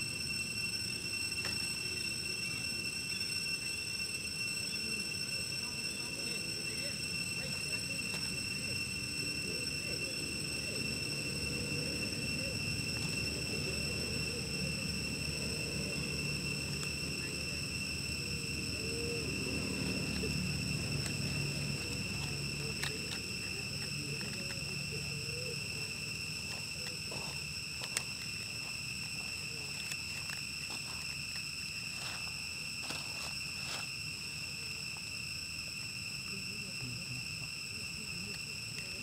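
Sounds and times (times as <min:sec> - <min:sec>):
low background rumble: 0:00.0 - 0:32.8
insect drone: 0:00.0 - 0:39.0.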